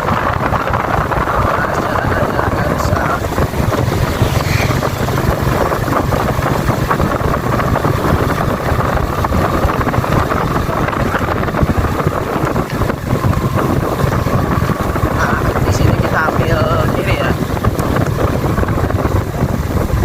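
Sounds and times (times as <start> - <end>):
motorcycle engine running: 0.0 - 20.0
wind noise on microphone: 0.0 - 20.0.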